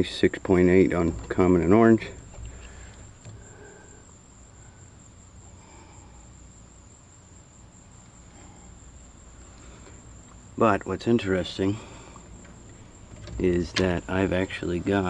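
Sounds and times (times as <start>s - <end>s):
faint high-pitched insect trill: 0.0s - 15.0s.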